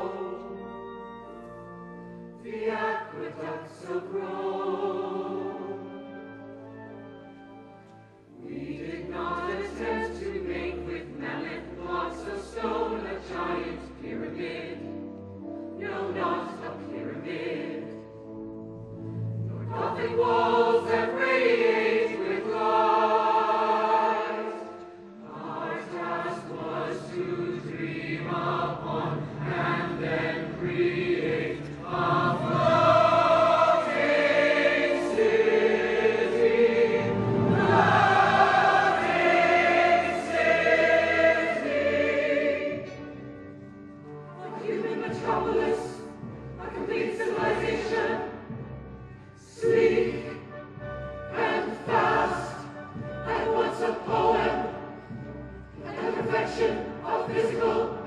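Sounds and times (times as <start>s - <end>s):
choir singing: 0.0s - 58.0s
musical accompaniment: 0.0s - 58.0s.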